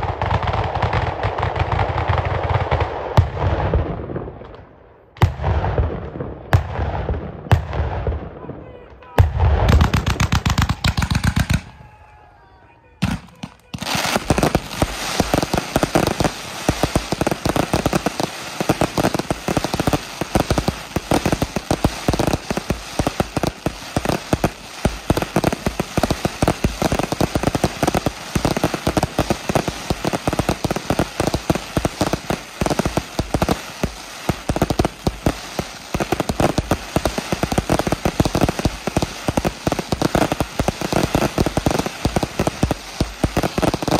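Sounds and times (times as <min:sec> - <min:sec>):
fireworks bangs and crackles: 0:00.0 - 0:12.0, 0:12.9 - 0:43.9.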